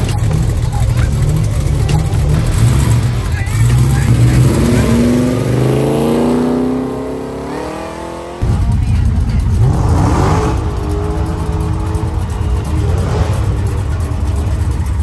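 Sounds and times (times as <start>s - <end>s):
car engine revving: 0.0s - 15.0s
low engine rumble: 0.0s - 15.0s.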